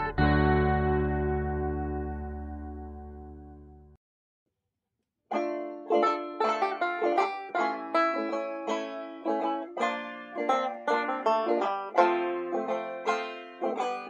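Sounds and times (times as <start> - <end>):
plucked banjo tune: 0.0 - 3.4, 5.3 - 14.0.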